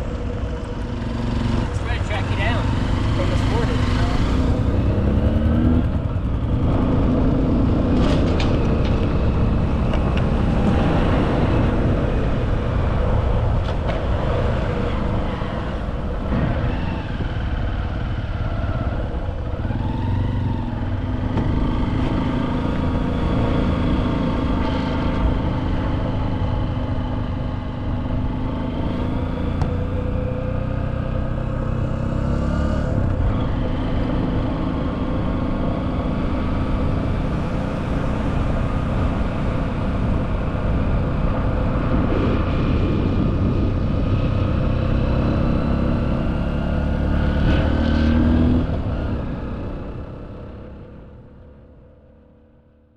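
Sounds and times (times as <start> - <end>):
motor vehicle engine running: 0.0 - 52.9.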